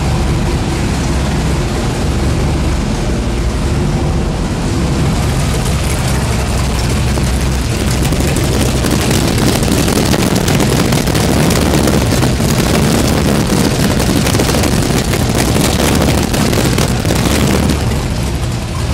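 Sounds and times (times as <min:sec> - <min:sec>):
car engine running loudly: 0:00.0 - 0:18.9.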